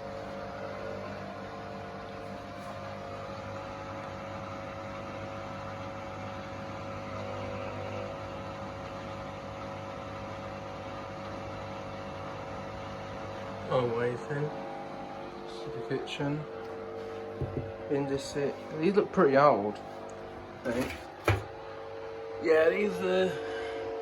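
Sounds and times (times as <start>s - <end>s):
drain pump humming: 0.0s - 24.0s.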